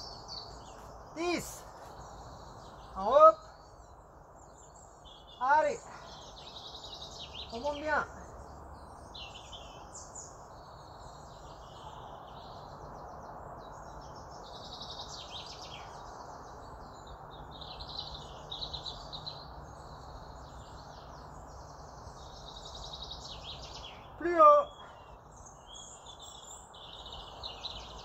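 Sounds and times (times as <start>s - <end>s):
small birds chirping and trilling: 0.0s - 28.0s
steady background hiss: 0.0s - 28.0s.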